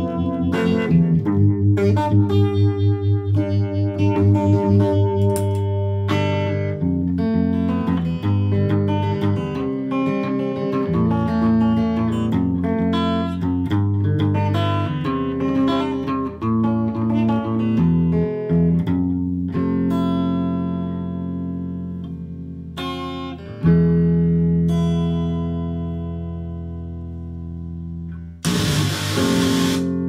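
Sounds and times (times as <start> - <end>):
electric guitar notes and chords: 0.0 - 30.0.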